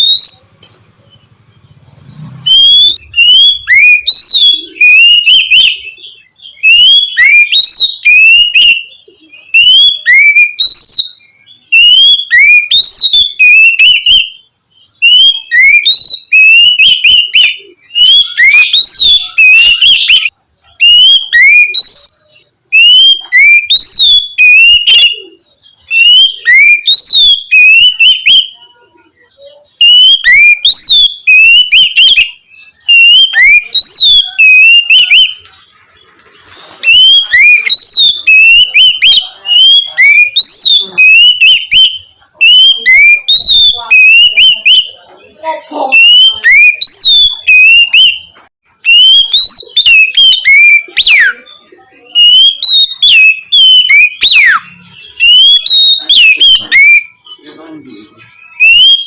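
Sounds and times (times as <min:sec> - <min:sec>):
bird singing whistled phrases: 0:00.0 - 0:00.5, 0:01.8 - 0:35.5, 0:36.8 - 0:59.0.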